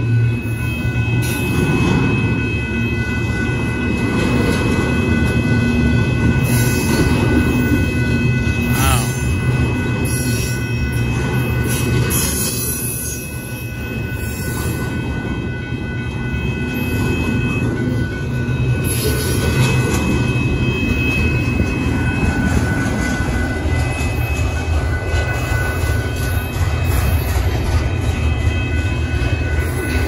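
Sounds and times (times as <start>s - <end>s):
freight train rumbling on rails: 0.0s - 30.0s.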